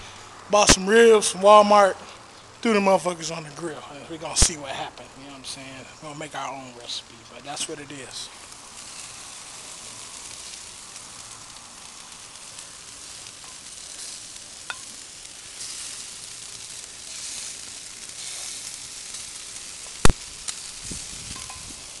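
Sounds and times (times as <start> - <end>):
meat sizzling on a grill: 0.0 - 22.0.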